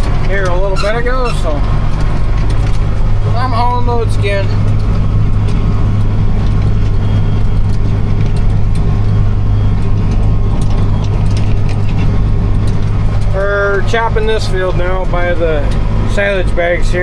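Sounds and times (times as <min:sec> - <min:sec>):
light rattles: 0:00.0 - 0:17.0
tractor engine running: 0:00.0 - 0:17.0.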